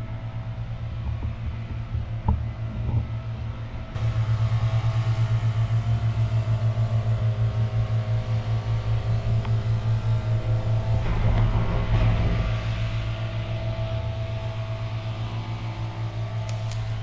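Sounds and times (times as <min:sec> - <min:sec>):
motor droning and throbbing: 0:00.0 - 0:17.0.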